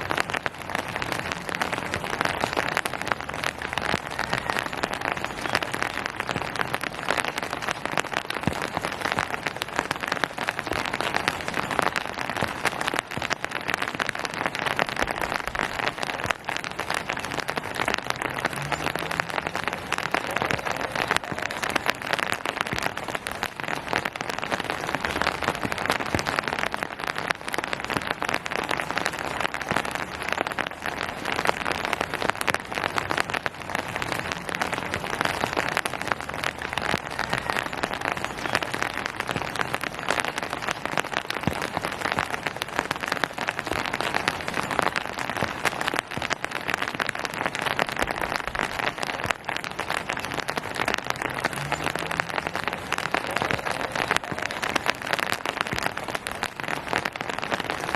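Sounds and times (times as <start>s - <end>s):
steady rain patter: 0.0s - 57.9s.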